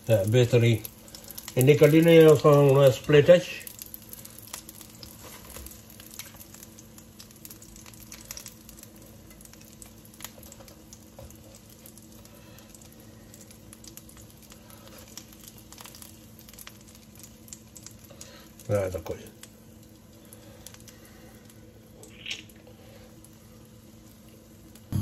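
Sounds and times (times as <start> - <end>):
small pops and crackles: 0.0 - 23.4
oil sizzling in a frying pan: 0.0 - 25.0.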